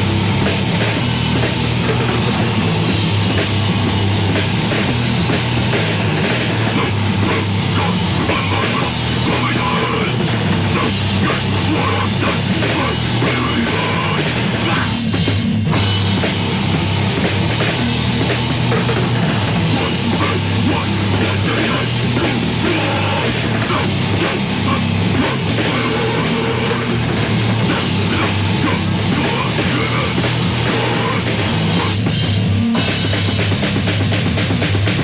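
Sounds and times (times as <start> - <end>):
heavy metal band playing: 0.0 - 35.0.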